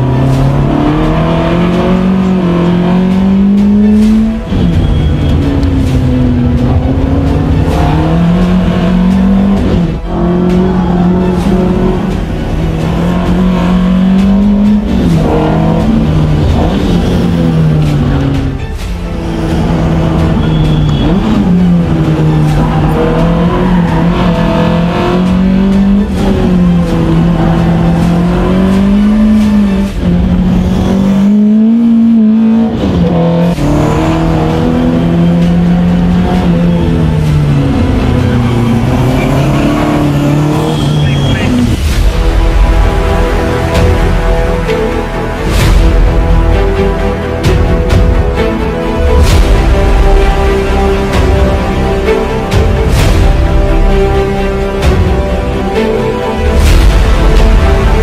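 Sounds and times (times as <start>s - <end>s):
car engine pulling hard: 0.0s - 58.0s.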